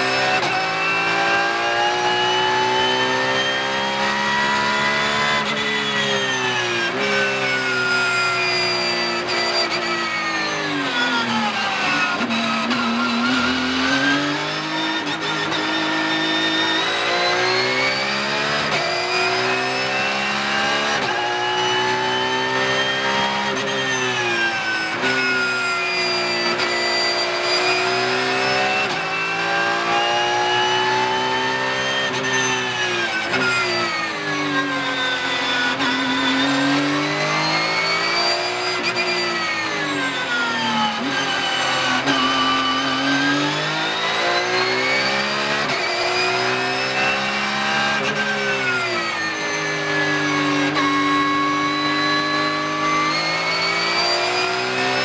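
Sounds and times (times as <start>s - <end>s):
race car engine: 0.0s - 55.0s.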